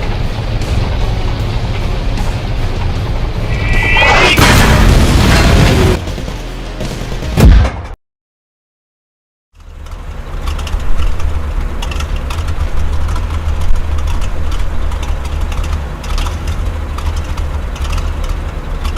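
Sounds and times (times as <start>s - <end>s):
tank engine rumbling: 0.0s - 7.4s, 9.5s - 18.9s.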